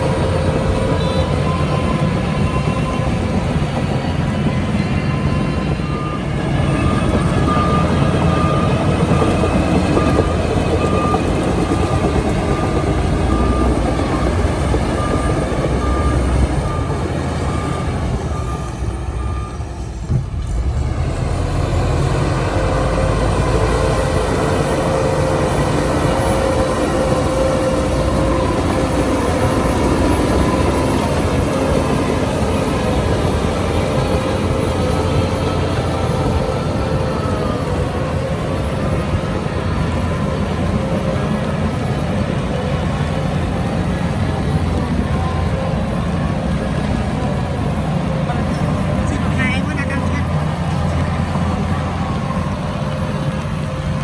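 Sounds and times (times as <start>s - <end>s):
heavy diesel machinery running: 0.0s - 54.0s
reversing alarm beeping: 0.0s - 54.0s.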